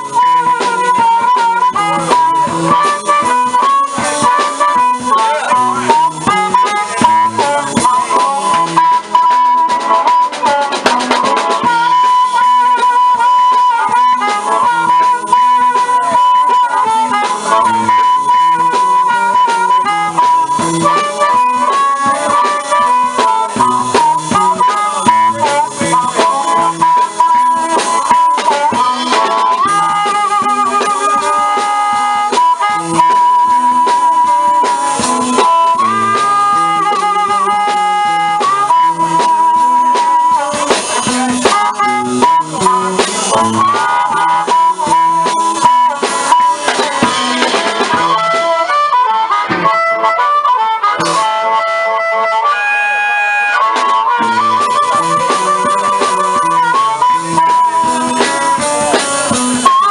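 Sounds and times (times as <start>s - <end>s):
harmonica bending notes: 0.0s - 59.9s
live blues band: 0.0s - 59.9s.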